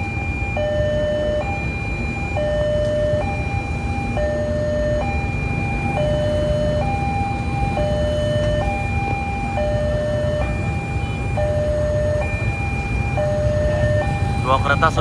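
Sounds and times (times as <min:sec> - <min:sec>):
two-tone crossing alarm: 0:00.0 - 0:15.0.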